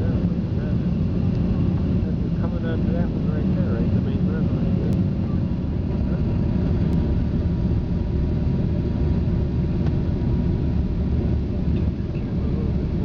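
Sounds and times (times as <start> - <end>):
jet cabin roar: 0.0 - 13.0.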